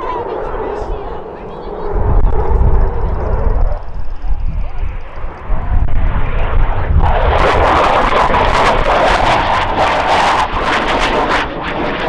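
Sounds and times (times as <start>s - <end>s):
jet aircraft roaring past: 0.0s - 12.0s
wind rumble on microphone: 0.0s - 12.0s.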